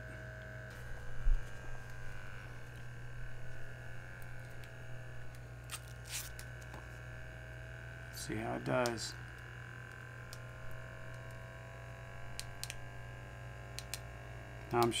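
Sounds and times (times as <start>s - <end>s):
electric air pump humming: 0.0s - 15.0s.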